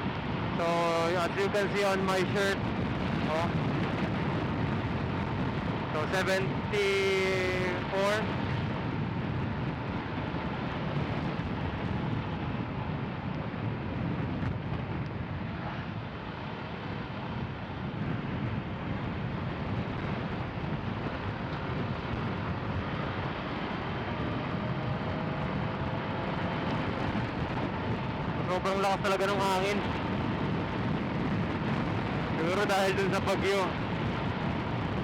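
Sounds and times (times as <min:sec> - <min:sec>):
road noise: 0:00.0 - 0:35.0
wind rush: 0:00.0 - 0:35.0
motorcycle engine hum: 0:02.6 - 0:32.4.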